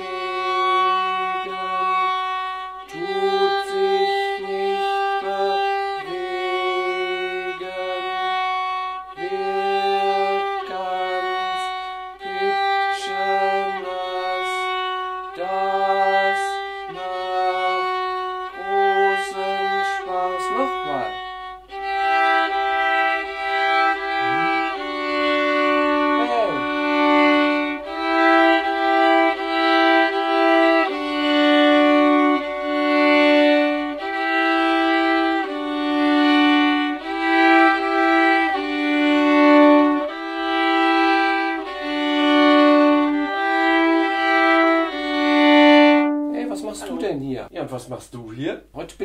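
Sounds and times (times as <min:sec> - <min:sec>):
violins playing a simple tune: 0:00.0 - 0:48.2.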